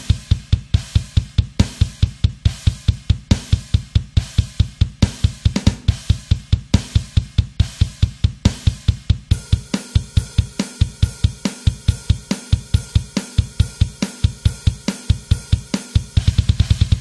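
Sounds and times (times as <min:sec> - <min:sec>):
fast kick drum: 0:00.0 - 0:17.0
snare and hi-hat hits: 0:00.0 - 0:17.0.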